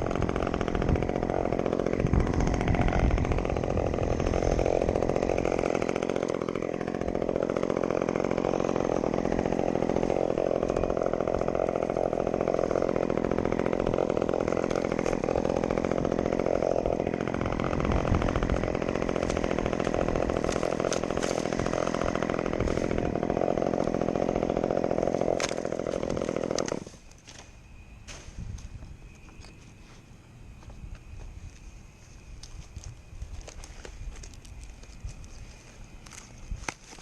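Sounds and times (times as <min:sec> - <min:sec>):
chainsaw running: 0:00.0 - 0:27.4, 0:32.7 - 0:37.0.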